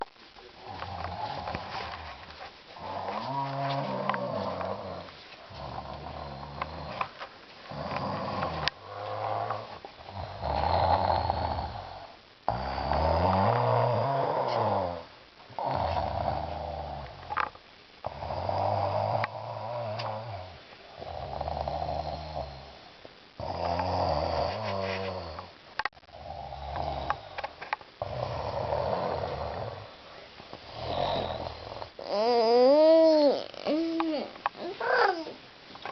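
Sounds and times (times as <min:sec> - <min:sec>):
person snoring: 0:00.6 - 0:02.2, 0:02.8 - 0:07.1, 0:07.7 - 0:17.4, 0:18.0 - 0:22.8, 0:23.4 - 0:25.5, 0:26.1 - 0:30.0, 0:30.6 - 0:35.4.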